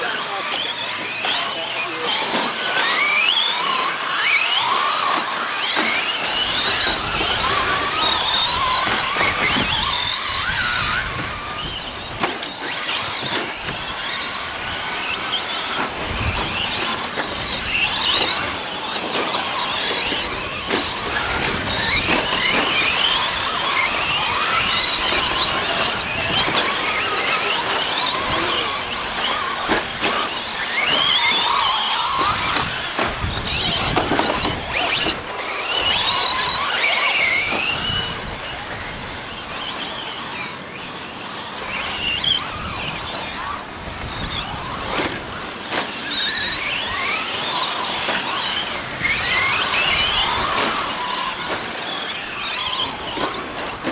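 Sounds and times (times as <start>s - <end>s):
rc truck motors whining: 0.0s - 53.9s.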